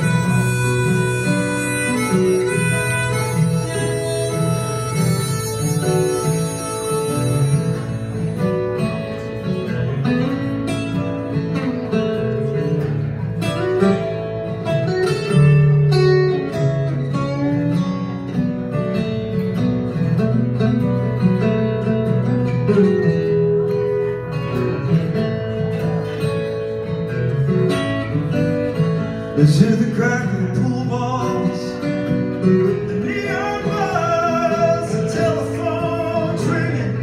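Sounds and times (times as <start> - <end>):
acoustic guitars playing: 0.0 - 37.0.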